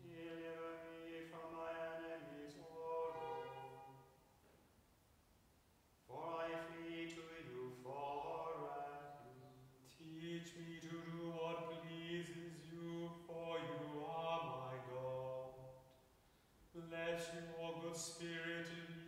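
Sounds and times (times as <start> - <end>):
men chanting a psalm: 0.0 - 3.7, 6.1 - 15.7, 16.8 - 19.0.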